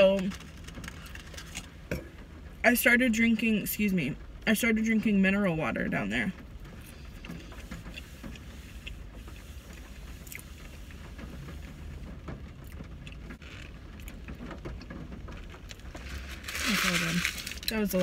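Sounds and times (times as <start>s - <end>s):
low rumble inside car: 0.0s - 18.0s.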